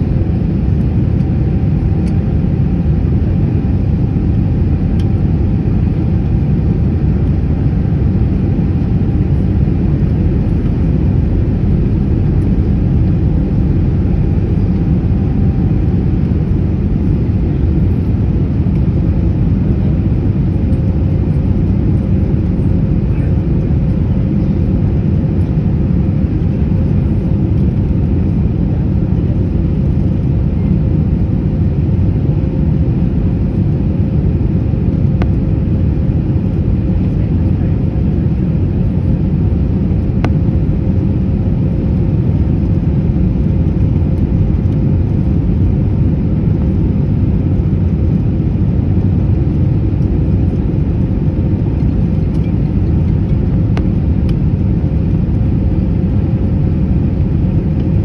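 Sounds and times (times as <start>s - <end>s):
aircraft engine rumble: 0.0s - 58.0s.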